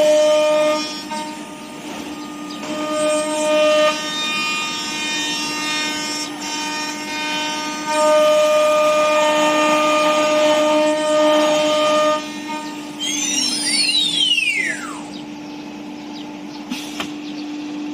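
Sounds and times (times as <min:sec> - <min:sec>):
router cutting noise: 0:00.0 - 0:15.3
router spindle whine: 0:00.0 - 0:16.4.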